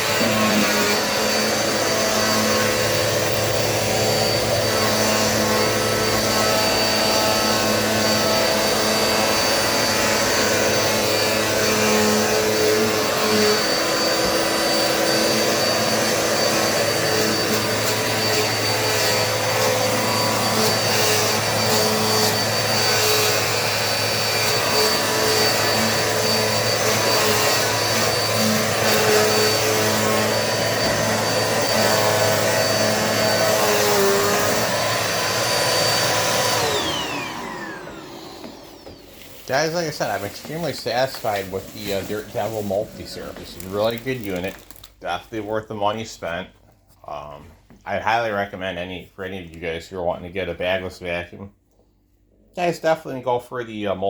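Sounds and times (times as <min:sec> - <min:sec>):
vacuum cleaner running: 0:00.0 - 0:44.8.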